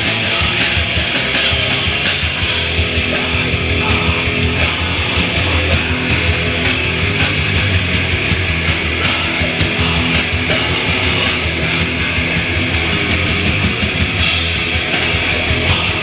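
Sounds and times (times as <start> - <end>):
heavy rock band playing live: 0.0 - 16.0.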